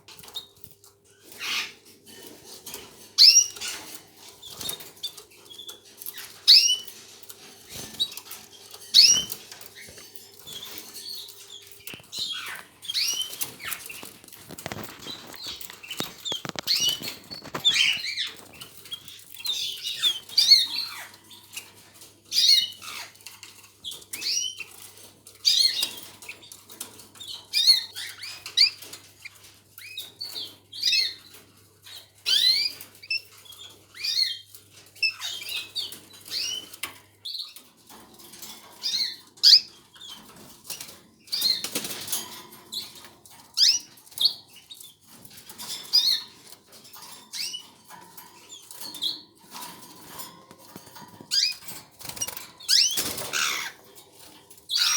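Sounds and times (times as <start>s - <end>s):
canaries chirping: 0.0s - 54.9s.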